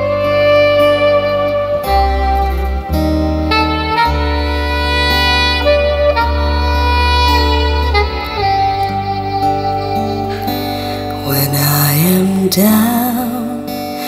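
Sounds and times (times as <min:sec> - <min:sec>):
instrumental music through speakers: 0:00.0 - 0:14.0.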